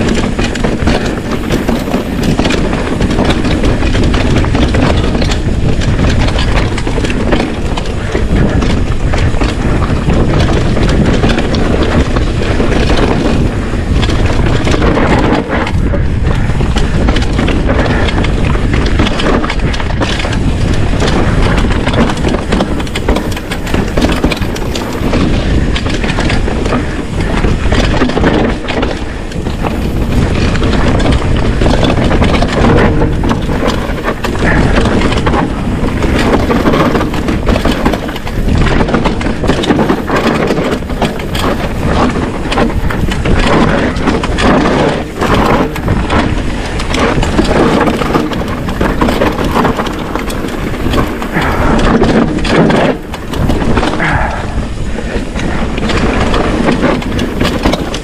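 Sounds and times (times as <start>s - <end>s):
bike chain and frame rattling: 0.0s - 58.0s
tyres rolling over loose dirt: 0.0s - 58.0s
wind buffeting microphone: 0.0s - 58.0s.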